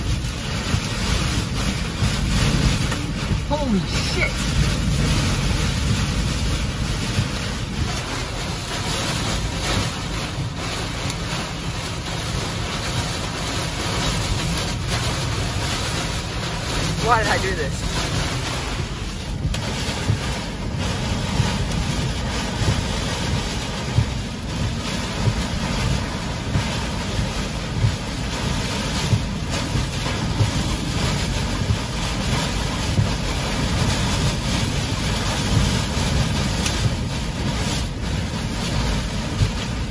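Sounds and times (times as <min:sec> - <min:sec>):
rain pelting car body: 0:00.0 - 0:39.9
wind buffeting a car: 0:00.0 - 0:39.9.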